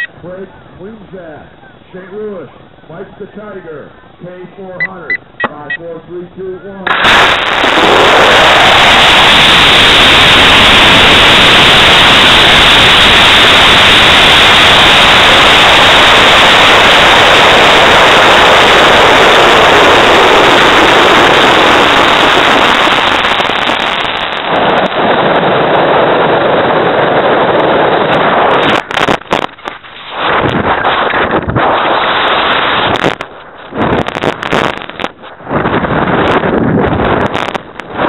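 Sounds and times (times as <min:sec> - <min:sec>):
rocket motor roaring: 0:06.9 - 0:38.0.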